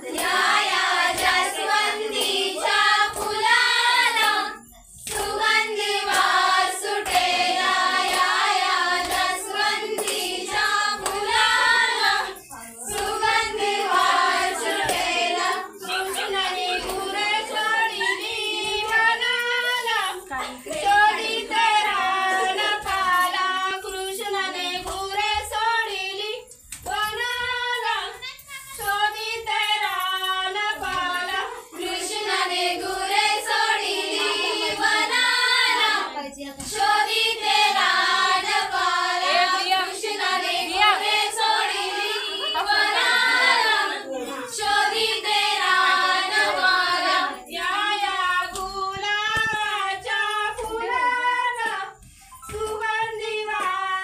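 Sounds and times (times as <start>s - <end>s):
women and girls singing together: 0.0s - 54.0s.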